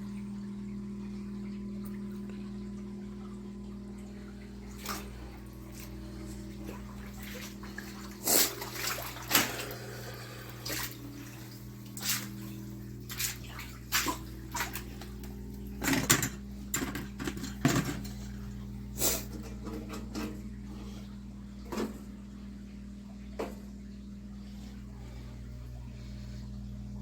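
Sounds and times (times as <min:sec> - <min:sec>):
steady electrical hum: 0:00.0 - 0:27.0
water splashing and sloshing: 0:00.0 - 0:27.0.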